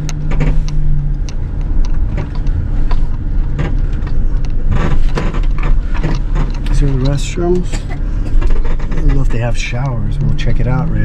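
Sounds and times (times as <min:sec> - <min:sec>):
small knocks and rattles: 0:00.0 - 0:10.8
low hum: 0:00.0 - 0:11.0
van engine and road rumble: 0:00.0 - 0:11.0.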